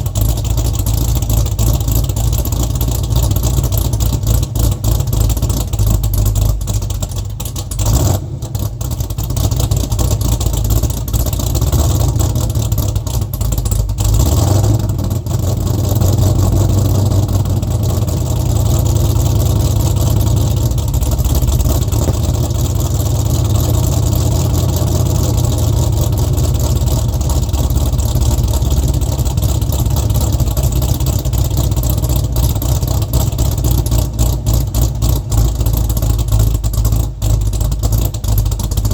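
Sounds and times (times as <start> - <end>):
car exhaust running: 0.0 - 38.9.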